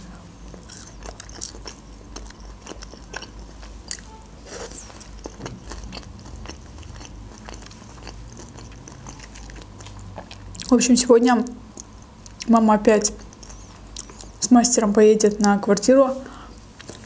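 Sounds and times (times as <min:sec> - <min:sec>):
chewing crunchy salad: 0:00.4 - 0:15.9, 0:16.6 - 0:17.0.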